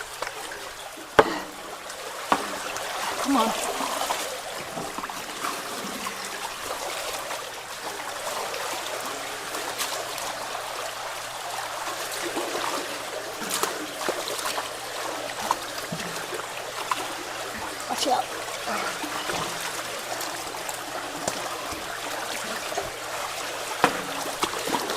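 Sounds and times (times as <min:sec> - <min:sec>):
water running through culvert: 0:00.0 - 0:24.9.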